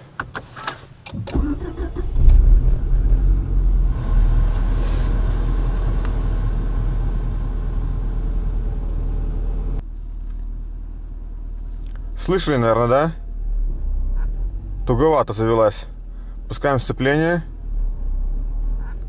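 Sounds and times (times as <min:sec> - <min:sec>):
car engine starting and idling: 0:00.1 - 0:19.0.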